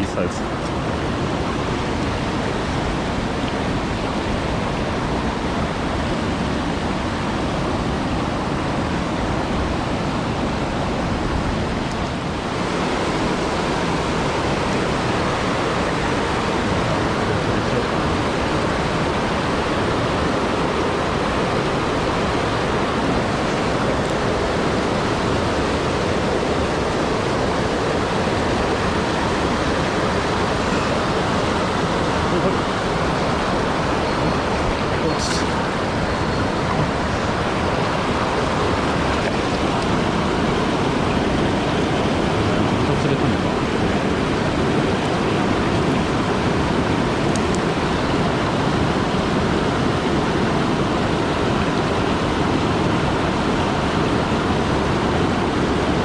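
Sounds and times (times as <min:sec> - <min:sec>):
mountain stream flowing: 0:00.0 - 0:56.0.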